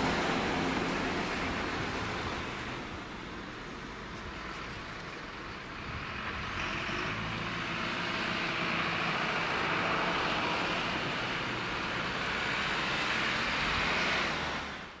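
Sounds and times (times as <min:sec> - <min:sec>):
car passing: 0:00.0 - 0:03.0, 0:05.7 - 0:14.9
truck driving past: 0:00.0 - 0:03.2, 0:04.3 - 0:14.9.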